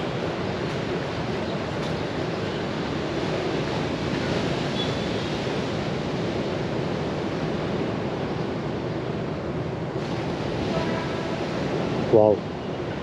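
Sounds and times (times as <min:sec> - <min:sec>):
sea surf rushing on beach: 0:00.0 - 0:13.0.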